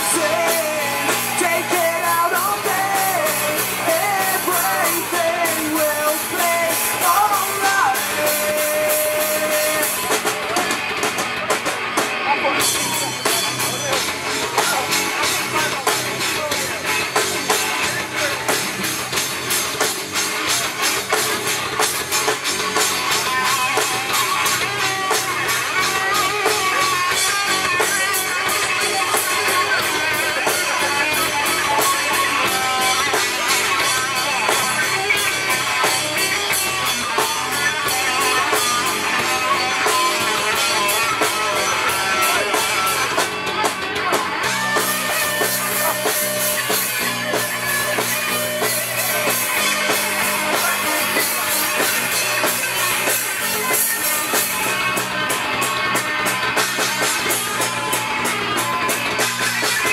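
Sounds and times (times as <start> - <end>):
bass guitar: 0.0 - 59.9
distorted electric guitars: 0.0 - 59.9
drum kit: 0.0 - 59.9.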